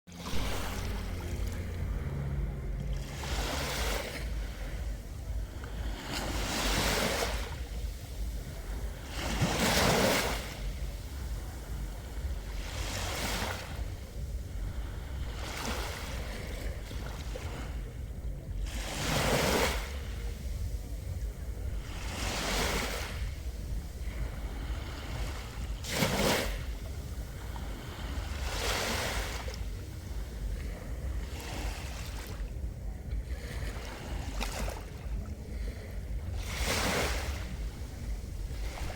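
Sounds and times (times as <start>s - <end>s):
waves breaking on shore: 0.1s - 38.9s.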